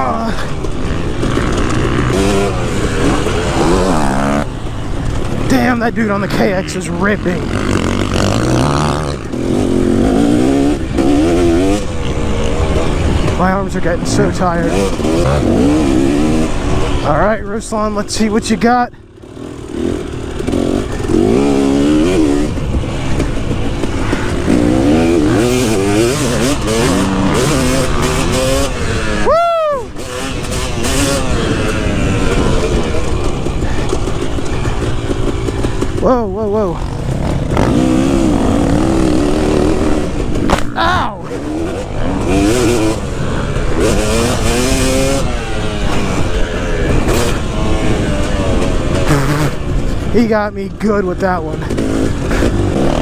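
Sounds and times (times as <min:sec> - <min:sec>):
two-stroke motocross engine revving: 0:00.0 - 0:53.0.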